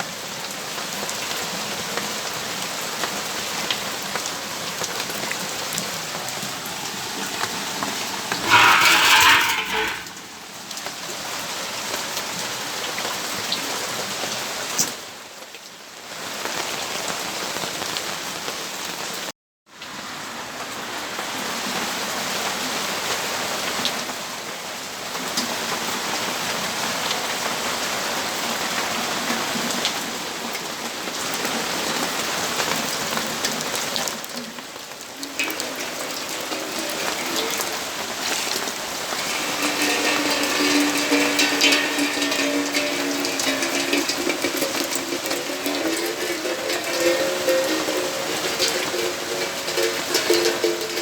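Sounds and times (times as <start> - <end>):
rainfall: 0.0 - 51.0.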